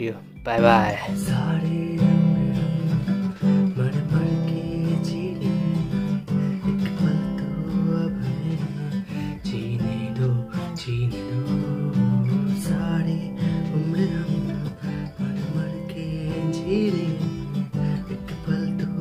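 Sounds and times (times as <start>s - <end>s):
strummed acoustic guitar music: 0.0s - 19.0s.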